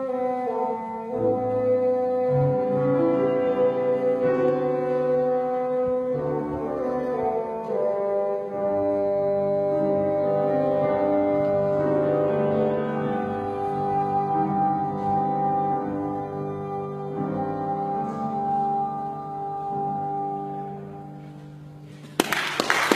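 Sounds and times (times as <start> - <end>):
bassoon playing slow melody: 0.0 - 21.6.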